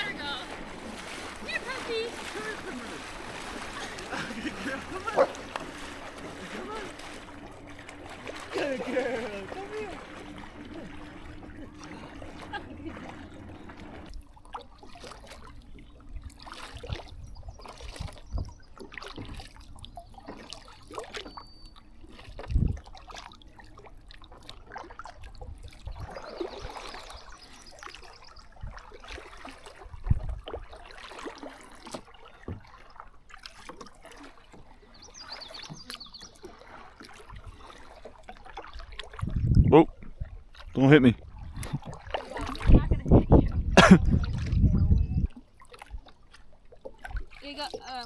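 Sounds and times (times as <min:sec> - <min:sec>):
paddle splashing water: 0:00.0 - 0:48.0.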